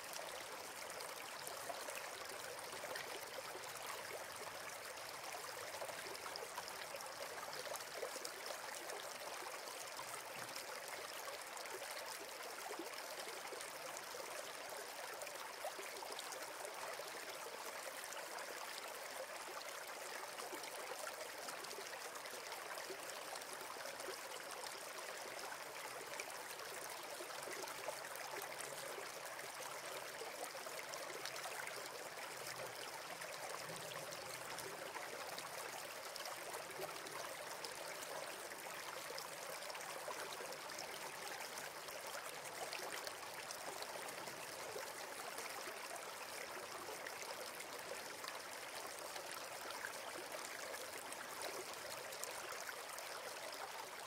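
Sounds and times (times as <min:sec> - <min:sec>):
river water running: 0:00.0 - 0:54.0.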